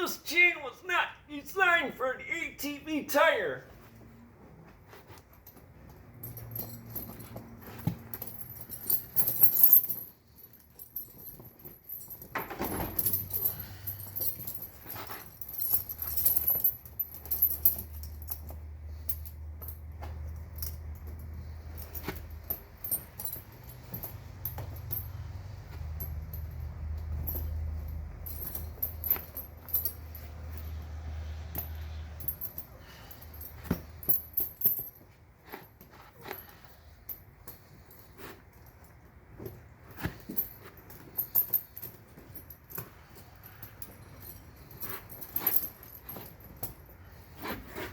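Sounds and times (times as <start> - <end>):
tire chain links clinking: 4.6 - 47.9.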